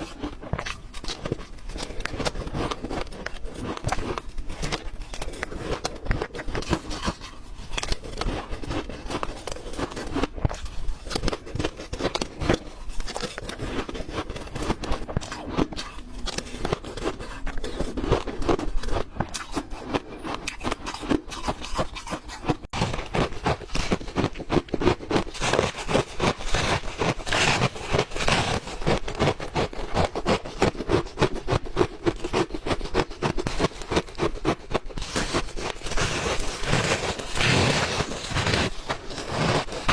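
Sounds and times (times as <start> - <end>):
person chewing and crunching ice: 0.0 - 39.9.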